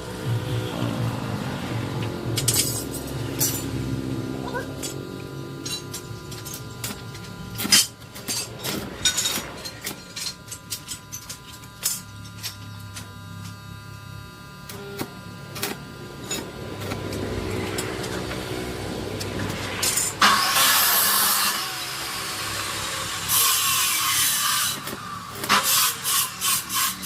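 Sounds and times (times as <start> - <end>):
steady low hum: 0.0 - 22.2.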